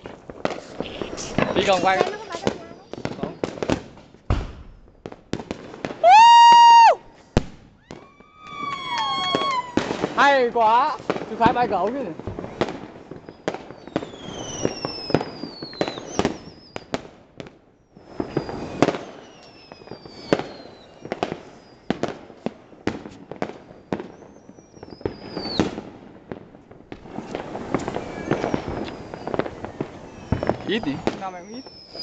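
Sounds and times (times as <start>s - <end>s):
whistling firework shells: 0.0s - 5.0s, 6.0s - 10.7s, 12.5s - 17.0s, 17.8s - 22.2s, 23.0s - 25.8s, 27.0s - 32.0s
fireworks bangs: 0.0s - 32.0s.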